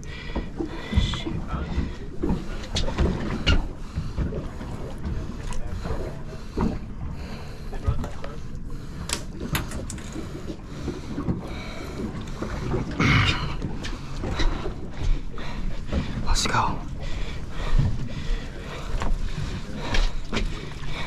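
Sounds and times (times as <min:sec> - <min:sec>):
wind and water noise: 0:00.0 - 0:21.0.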